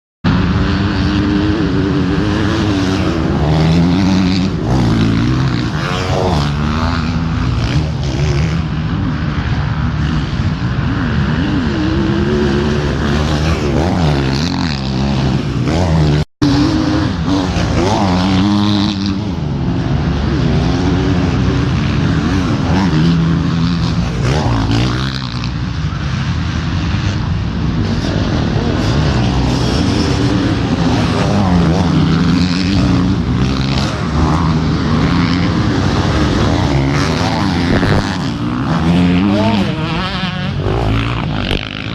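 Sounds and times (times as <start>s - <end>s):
motorcycle engines revving: 0.3s - 41.9s.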